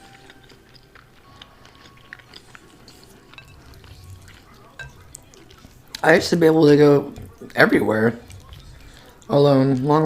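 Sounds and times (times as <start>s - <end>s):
quiet chewing: 0.0s - 10.0s.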